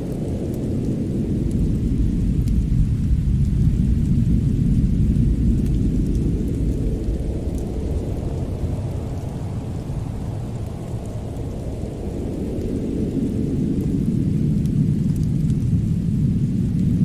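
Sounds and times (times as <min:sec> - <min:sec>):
faint fire crackles: 0:00.0 - 0:17.0
fireplace deep rumble: 0:00.0 - 0:17.0.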